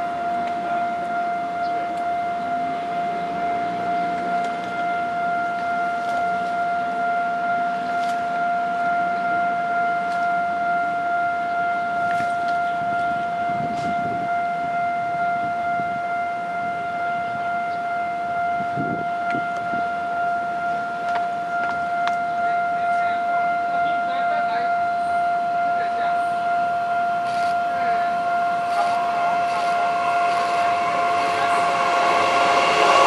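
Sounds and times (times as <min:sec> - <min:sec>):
level crossing alarm tone: 0:00.0 - 0:33.0
train passing: 0:00.0 - 0:33.0.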